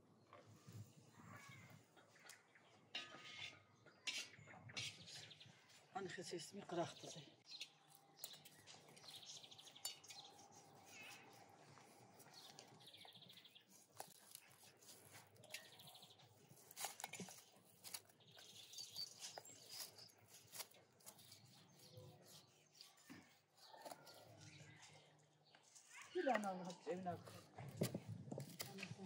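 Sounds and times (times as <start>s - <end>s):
birds chirping: 0.2s - 27.2s.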